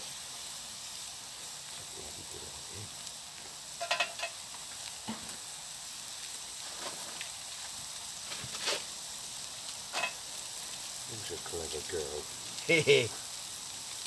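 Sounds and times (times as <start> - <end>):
mushrooms sizzling in a pan: 0.0 - 14.0.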